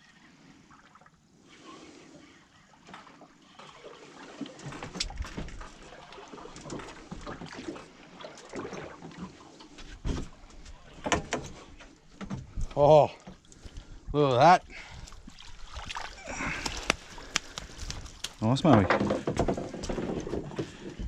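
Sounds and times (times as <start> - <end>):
water lapping around a boat: 0.0 - 21.0.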